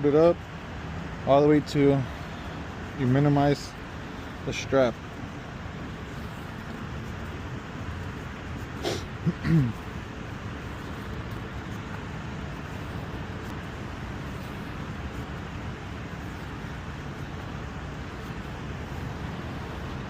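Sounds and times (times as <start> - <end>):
steady background hiss and rumble: 0.0 - 20.0.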